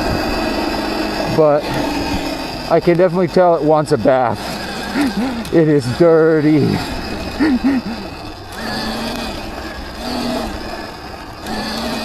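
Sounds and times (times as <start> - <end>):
electric motor whining: 0.0 - 12.0
steady rushing noise: 0.0 - 12.0.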